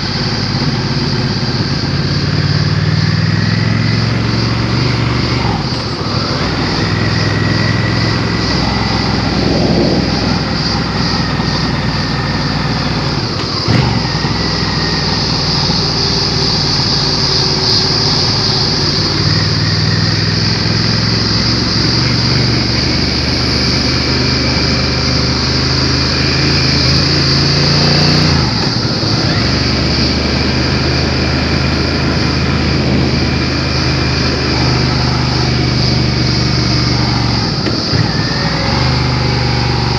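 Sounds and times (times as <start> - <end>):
wind noise: 0.0 - 38.9
motorcycle engine at speed: 0.0 - 39.9.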